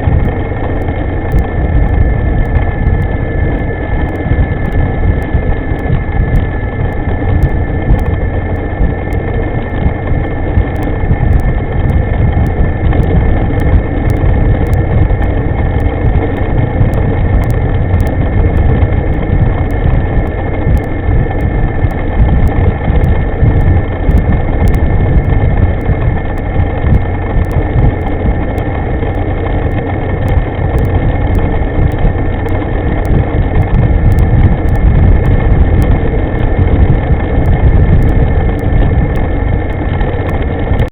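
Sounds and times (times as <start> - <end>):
electric scooter whine: 0.0 - 40.9
wind buffeting microphone: 0.0 - 40.9.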